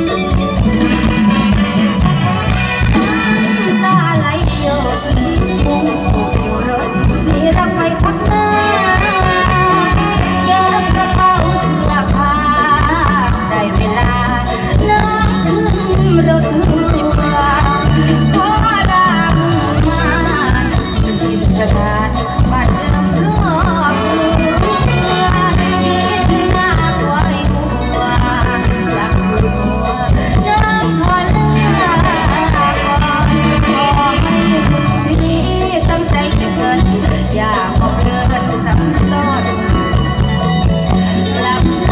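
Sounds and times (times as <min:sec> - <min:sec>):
band with steady bass beat: 0:00.0 - 0:41.9
woman singing: 0:02.8 - 0:41.9.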